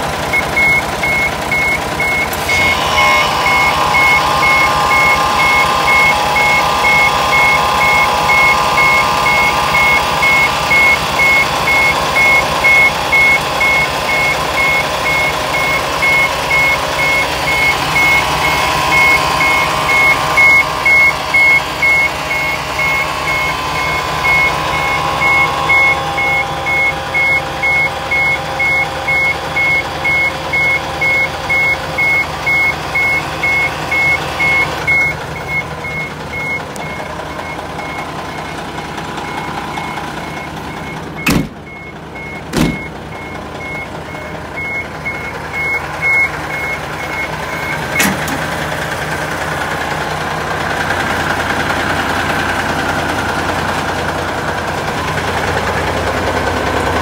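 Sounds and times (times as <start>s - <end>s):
low engine hum: 0.0s - 57.0s
truck reversing alarm beeping: 0.0s - 57.0s.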